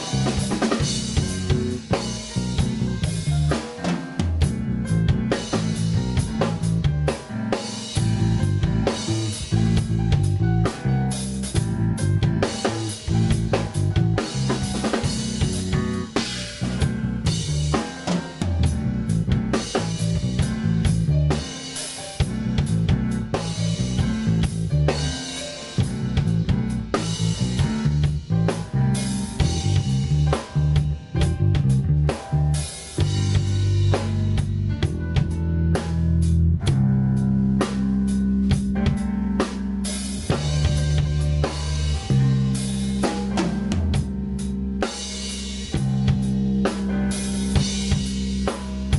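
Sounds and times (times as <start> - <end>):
drum kit: 0.0 - 48.9
electric bass line: 0.0 - 48.9
rock band playing live: 0.0 - 48.9.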